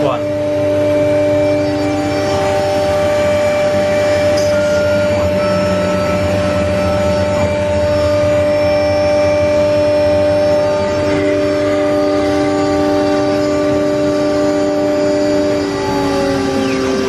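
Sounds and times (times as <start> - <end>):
machine whining tones: 0.0 - 17.0.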